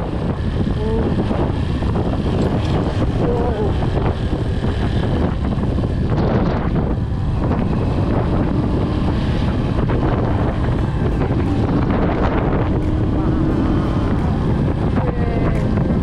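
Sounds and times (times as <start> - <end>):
motorcycle engine drone: 0.0 - 16.0
wind buffeting microphone: 0.0 - 16.0.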